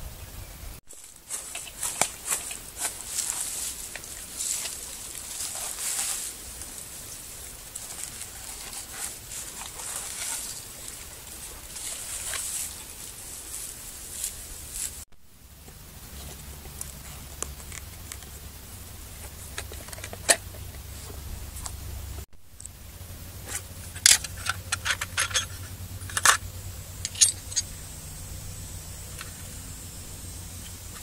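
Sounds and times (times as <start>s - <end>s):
pine needles rustling and crackling: 0.9s - 31.0s.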